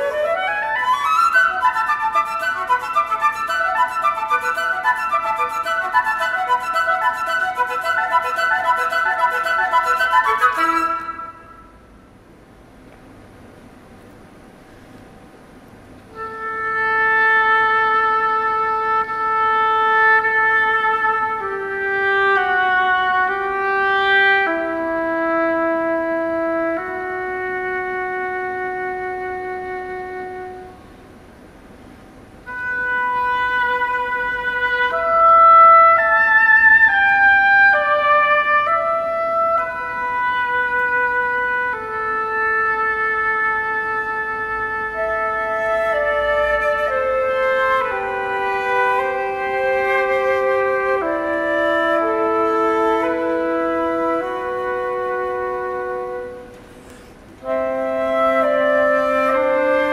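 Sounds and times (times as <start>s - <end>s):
oboe and flute duet: 0.0s - 11.9s, 16.1s - 31.3s, 32.4s - 59.9s.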